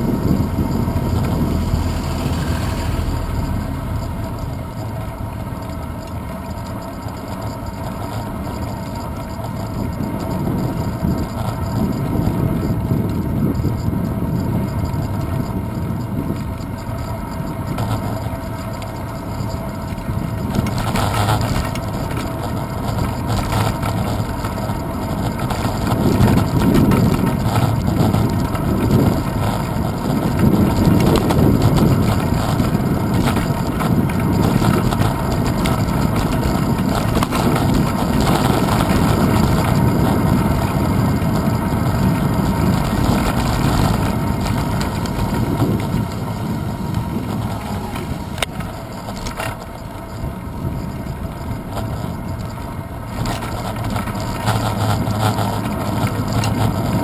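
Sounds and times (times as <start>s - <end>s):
wind buffeting microphone: 0.0s - 7.1s, 9.0s - 57.0s
road rumble: 0.0s - 57.0s.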